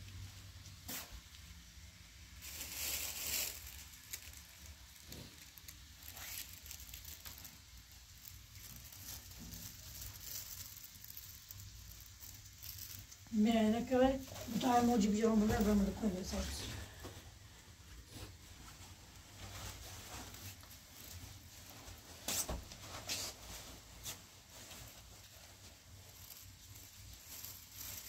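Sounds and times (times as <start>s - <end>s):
wool garment rustling: 2.4s - 17.6s, 18.3s - 28.0s.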